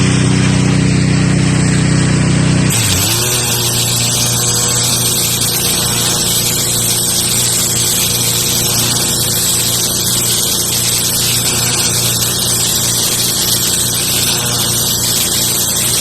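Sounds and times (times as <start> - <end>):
pressure washer motor drone: 0.0 - 16.0
high-pressure water spray hissing: 2.7 - 16.0.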